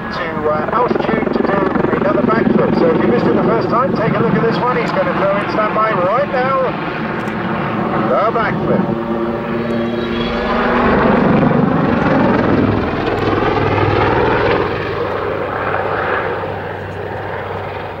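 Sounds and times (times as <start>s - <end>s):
helicopter rotors and engines: 0.0s - 18.0s.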